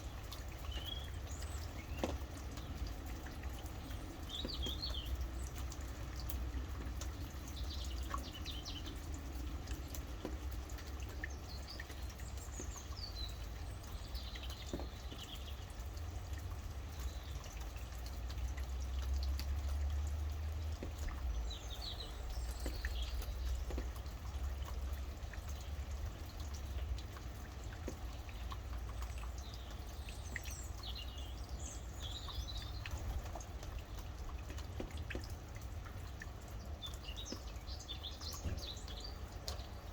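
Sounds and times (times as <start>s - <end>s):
birds chirping: 0.0s - 15.9s, 20.8s - 26.8s, 27.5s - 39.9s
rain dripping and pattering: 0.0s - 39.9s.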